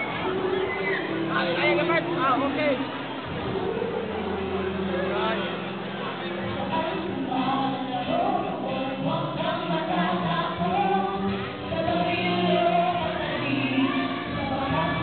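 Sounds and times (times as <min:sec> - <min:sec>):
people singing into microphones: 0:02.9 - 0:15.0.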